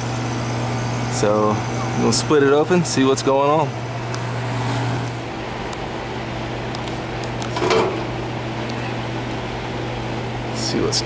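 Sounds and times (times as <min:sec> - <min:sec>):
compressor humming: 0:00.0 - 0:11.0.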